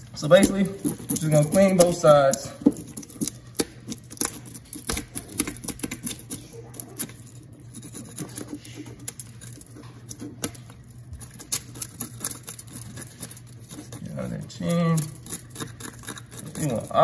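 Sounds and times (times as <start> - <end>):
knife scraping fish scales: 0.0 - 17.0.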